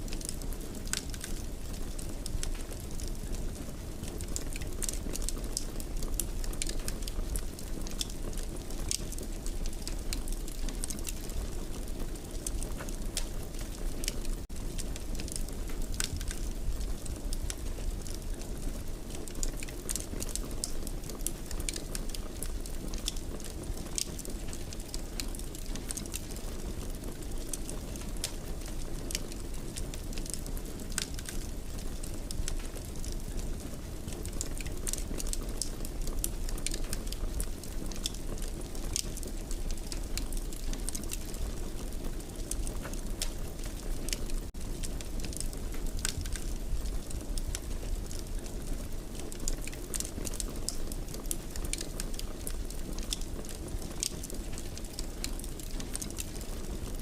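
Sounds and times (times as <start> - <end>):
fire crackling and popping: 0.0 - 57.0
wood fire rumbling: 0.0 - 57.0.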